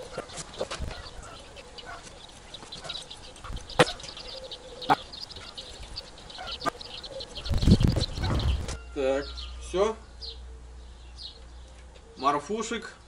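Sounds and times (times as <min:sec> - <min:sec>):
poultry calling: 0:00.0 - 0:12.9
small birds chirping: 0:00.0 - 0:13.0.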